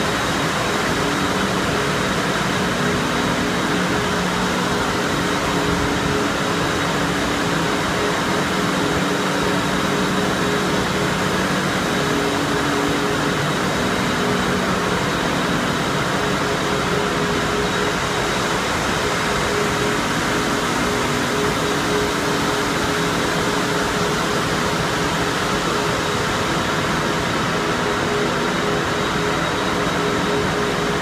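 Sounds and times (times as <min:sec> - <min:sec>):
steady machine hums: 0:00.0 - 0:31.0.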